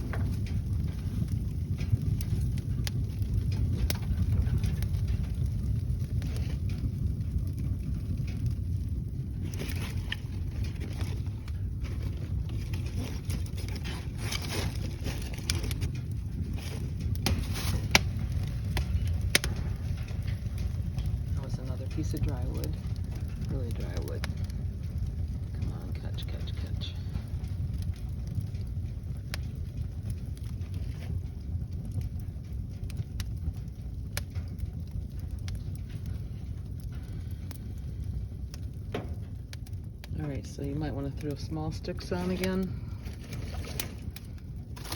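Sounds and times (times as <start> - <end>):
fire burning in a fireplace: 0.0 - 44.9
fire crackling and snapping: 0.0 - 44.9
low rumble: 0.0 - 44.9.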